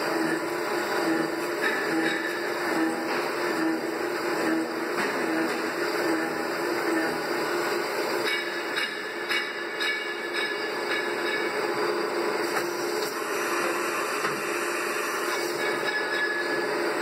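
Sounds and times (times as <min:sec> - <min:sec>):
milling machine whirring: 0:00.0 - 0:17.0.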